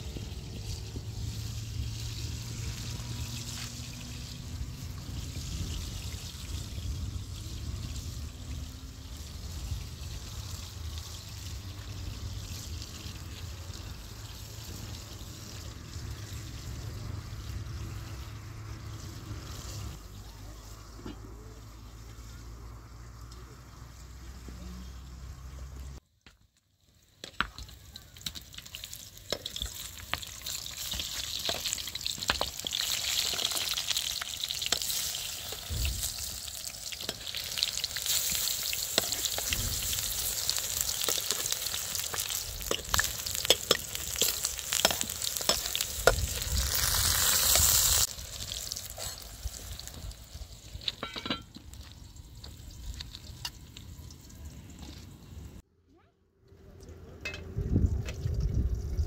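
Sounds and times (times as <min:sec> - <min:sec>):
food sizzling in a pan: 0:00.0 - 0:22.8, 0:28.0 - 0:55.4.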